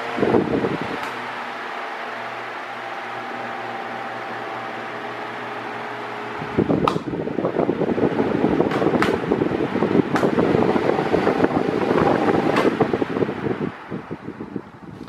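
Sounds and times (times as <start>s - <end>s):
fan motor hum: 0.0s - 15.0s.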